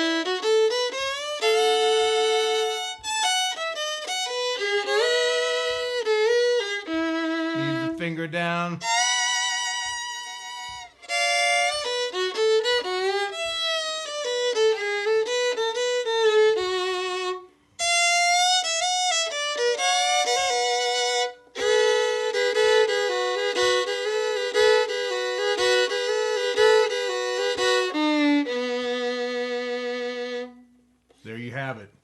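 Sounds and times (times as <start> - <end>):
solo fiddle playing bluegrass: 0.0 - 30.8.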